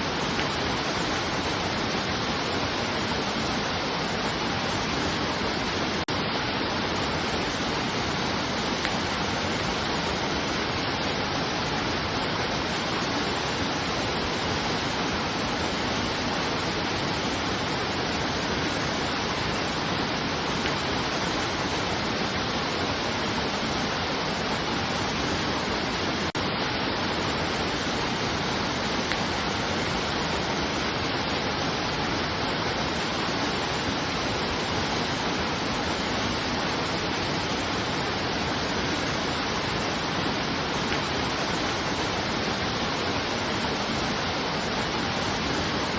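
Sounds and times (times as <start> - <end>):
rushing water: 0.0 - 45.9.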